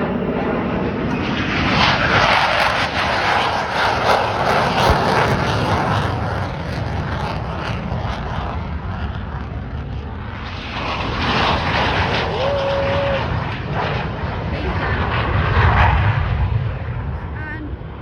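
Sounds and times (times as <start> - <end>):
fighter jet engines rumbling: 0.0 - 18.0.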